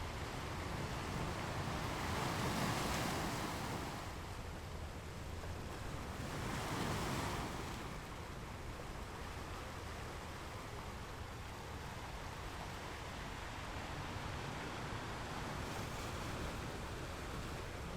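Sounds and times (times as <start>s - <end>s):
ocean waves breaking on shore: 0.1s - 4.4s, 5.3s - 17.9s.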